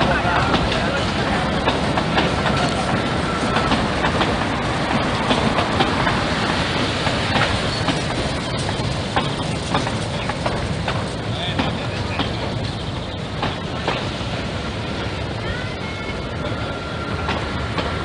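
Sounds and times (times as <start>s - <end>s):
train wheels clattering: 0.0s - 15.1s, 16.4s - 18.0s.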